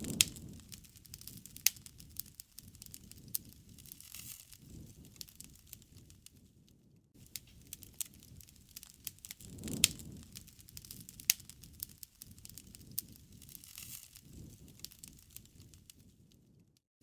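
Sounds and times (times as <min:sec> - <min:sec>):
campfire crackling and popping: 0:00.0 - 0:16.8
low rush of flame: 0:00.0 - 0:16.8.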